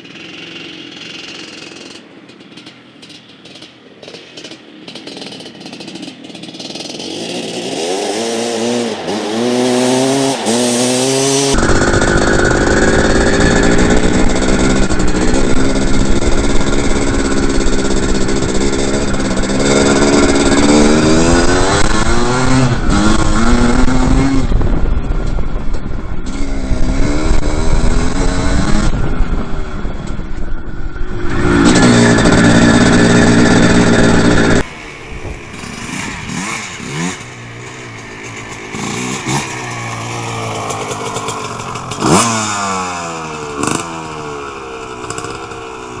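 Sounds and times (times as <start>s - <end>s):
dirt bike engine revving: 3.4s - 46.0s.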